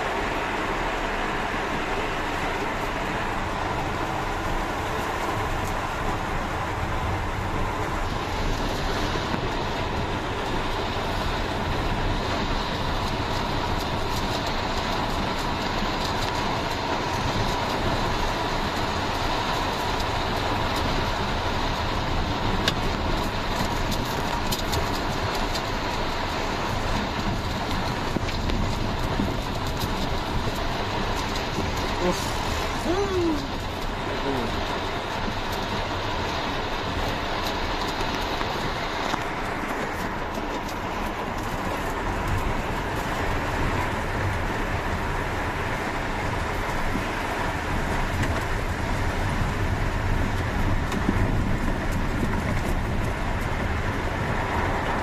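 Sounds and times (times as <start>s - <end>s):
car driving on wet road: 0.0s - 55.0s
heavy rain on car roof: 0.0s - 55.0s.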